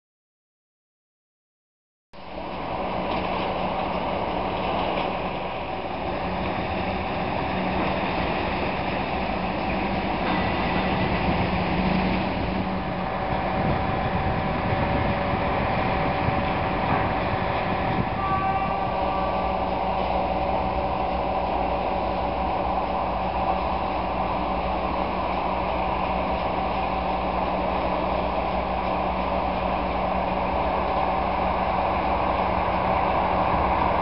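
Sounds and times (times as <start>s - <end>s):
electric train rumbling: 2.2s - 34.0s.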